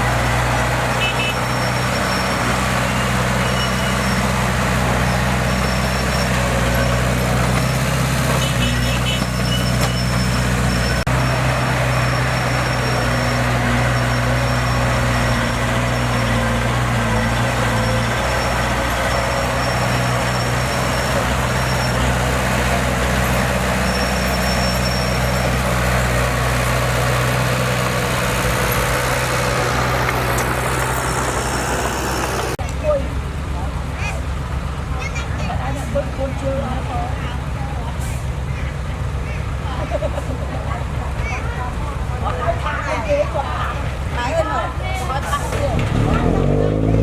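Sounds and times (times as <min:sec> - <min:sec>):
heavy diesel engine running: 0:00.0 - 0:47.0.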